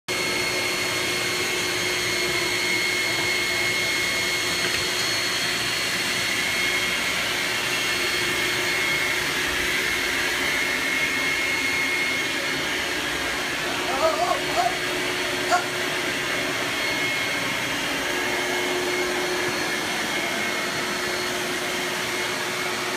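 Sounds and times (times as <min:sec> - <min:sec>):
vacuum cleaner running: 0:00.1 - 0:22.9.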